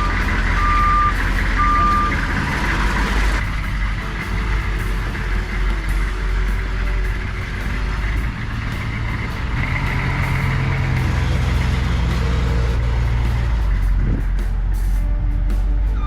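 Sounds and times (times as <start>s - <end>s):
truck engine running at low speed: 0.0s - 16.0s.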